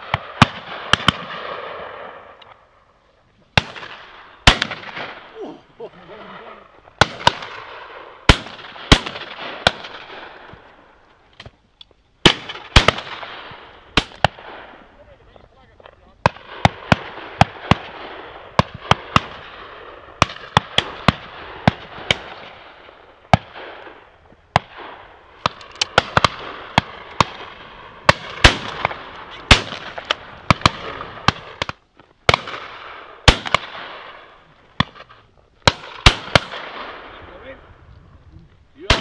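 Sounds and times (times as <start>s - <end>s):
shotguns firing: 0.0s - 2.4s, 3.6s - 10.9s, 12.2s - 14.9s, 16.2s - 37.2s.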